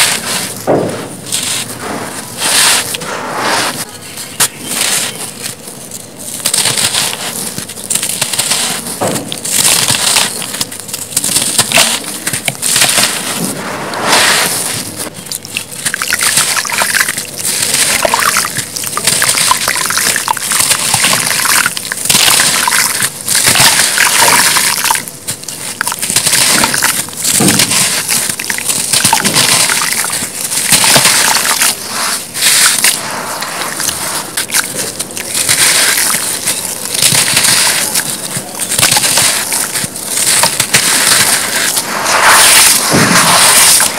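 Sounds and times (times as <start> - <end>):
blocks crumbling by hand: 0.0 - 3.0, 4.3 - 13.5, 14.4 - 43.9
wet slushy squish: 0.0 - 43.9.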